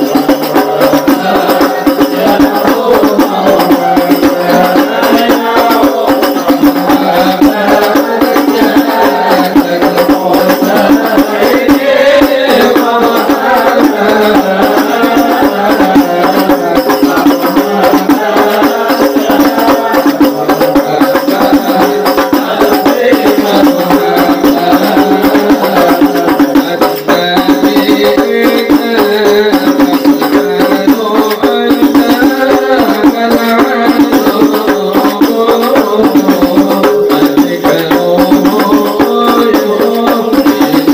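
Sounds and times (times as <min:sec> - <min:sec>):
frame drums playing: 0:00.0 - 0:40.9
group of voices singing: 0:00.0 - 0:40.9.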